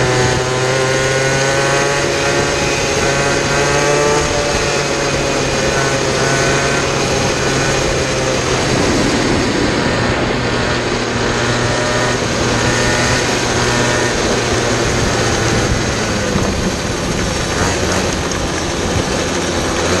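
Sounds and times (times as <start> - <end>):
small kart engine running: 0.0 - 20.0
wind noise on microphone: 0.0 - 20.0.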